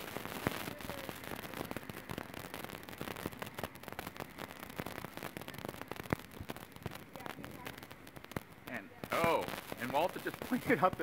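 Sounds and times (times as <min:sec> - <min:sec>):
microphone crackling and popping: 0:00.0 - 0:11.0
rain hiss: 0:00.0 - 0:11.0.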